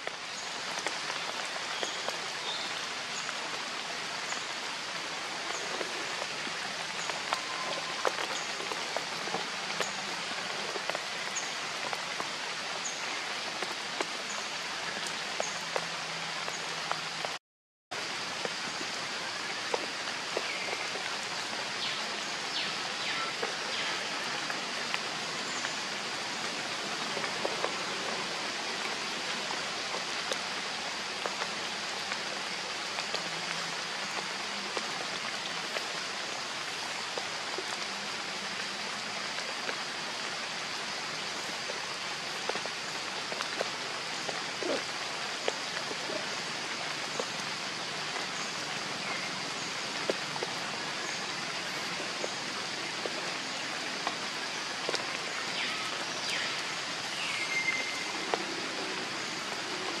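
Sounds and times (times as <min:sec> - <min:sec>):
light rain on leaves: 0:00.0 - 1:00.0.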